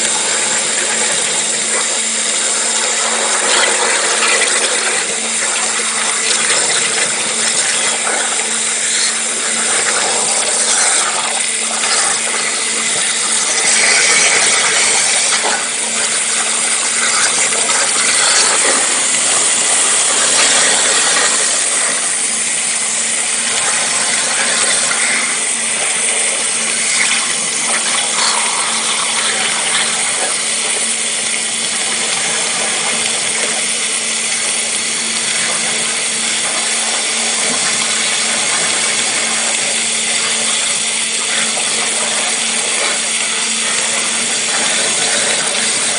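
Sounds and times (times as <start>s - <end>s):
waterjet cutter hissing: 0.0s - 45.9s.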